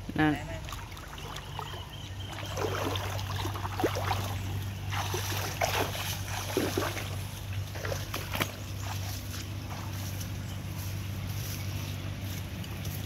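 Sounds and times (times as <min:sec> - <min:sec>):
steady low hum: 0:00.0 - 0:13.0
water sloshing around wading legs: 0:00.0 - 0:13.0.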